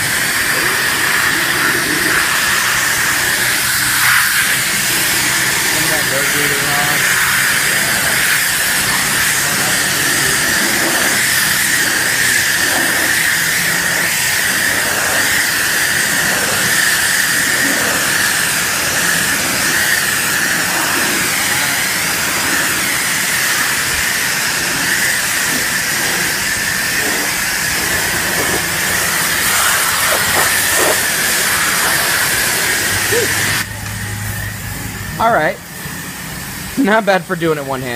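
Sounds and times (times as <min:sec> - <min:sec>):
pressure washer spraying water: 0:00.0 - 0:37.9.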